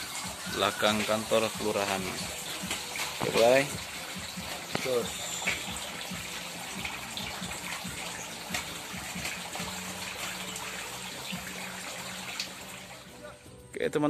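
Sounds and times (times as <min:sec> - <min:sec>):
water jets splashing into tank: 0:00.0 - 0:13.4.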